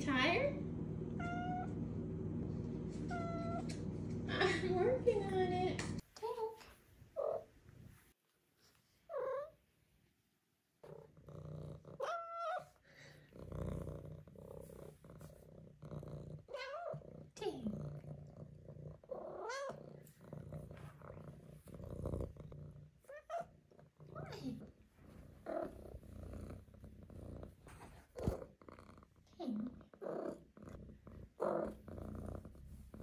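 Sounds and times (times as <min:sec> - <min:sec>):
kitten purring: 0:00.0 - 0:06.0, 0:10.8 - 0:33.0.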